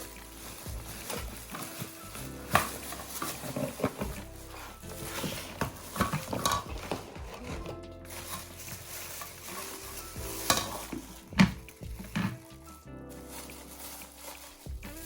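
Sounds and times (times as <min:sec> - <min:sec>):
packaging rustling and crinkling: 0:00.0 - 0:15.0
soft background music: 0:00.0 - 0:15.0.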